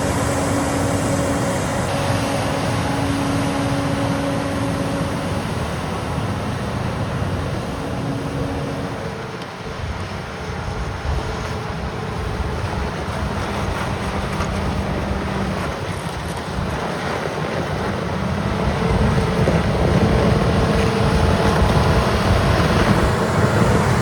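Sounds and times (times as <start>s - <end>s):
motor grader engines: 0.0s - 24.0s
snow blower engine drone: 0.0s - 24.0s.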